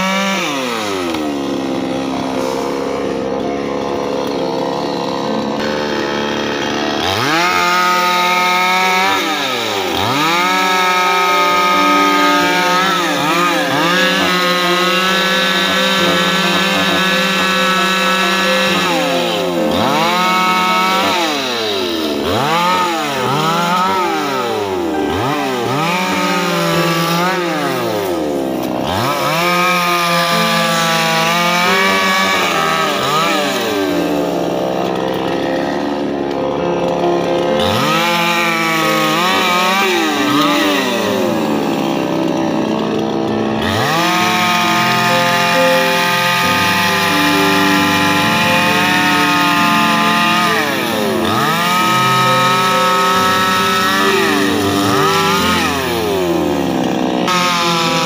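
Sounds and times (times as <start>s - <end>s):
chainsaw cutting wood: 0.0s - 58.0s
chainsaw running: 0.0s - 58.0s.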